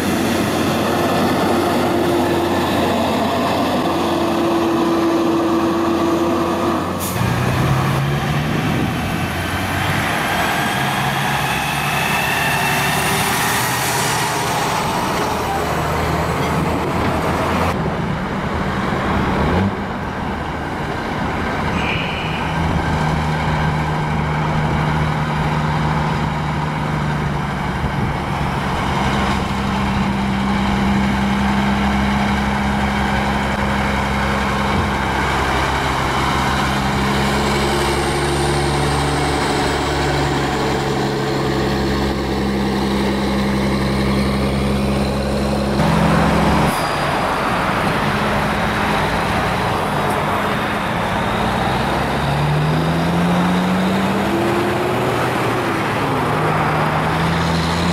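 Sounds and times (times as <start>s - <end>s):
heavy diesel truck engines: 0.0s - 57.9s
tyre and road noise: 0.0s - 57.9s.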